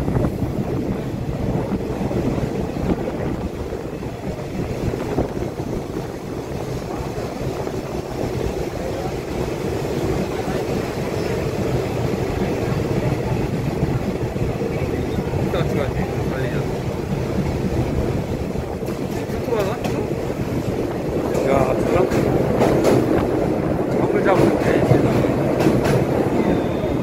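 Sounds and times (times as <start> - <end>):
train wheels rumbling: 0.0 - 27.0
wind on microphone: 0.0 - 27.0.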